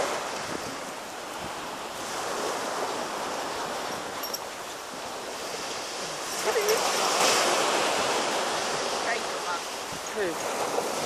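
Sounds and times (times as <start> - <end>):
waves breaking on sandy beach: 0.0 - 11.0.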